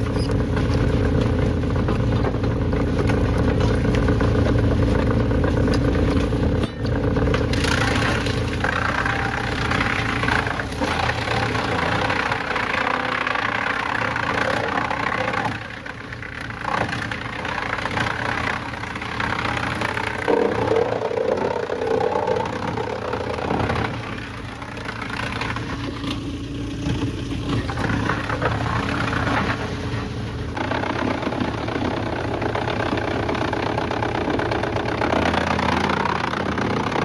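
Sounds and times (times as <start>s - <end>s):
heavy machinery engines running: 0.0s - 37.0s
machinery clatter: 0.0s - 37.0s.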